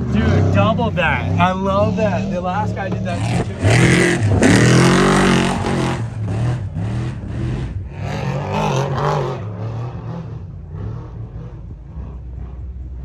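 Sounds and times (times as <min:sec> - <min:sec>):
truck engine revving past: 0:00.0 - 0:13.0.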